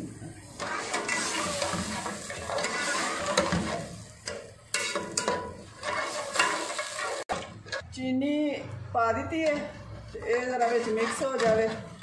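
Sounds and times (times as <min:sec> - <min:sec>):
metal ladle scraping pot: 0:00.4 - 0:07.8, 0:09.3 - 0:12.0.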